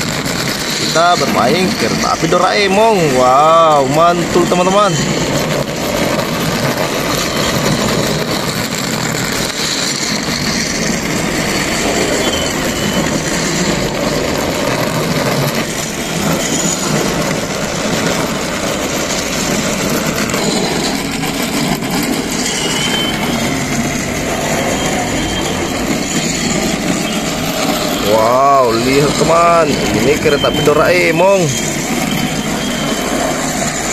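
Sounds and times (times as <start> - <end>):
toy train motor and wheels: 0.0 - 33.9.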